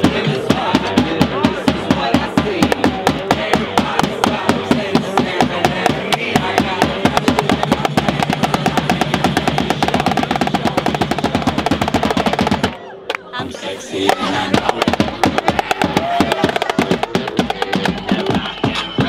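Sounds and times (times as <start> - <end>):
drums hit with sticks: 0.0 - 12.7, 14.1 - 19.0
music: 0.0 - 19.0.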